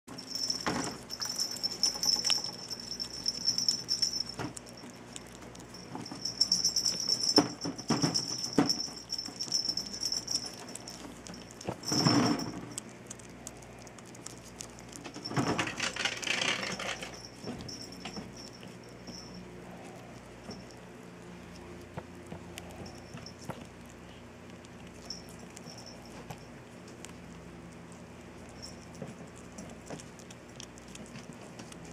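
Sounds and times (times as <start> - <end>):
ferret chewing meat: 0.1 - 31.9.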